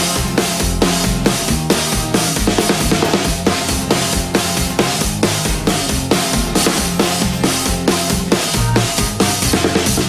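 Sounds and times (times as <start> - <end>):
driving drum beat: 0.0 - 10.0
rock music: 0.0 - 10.0.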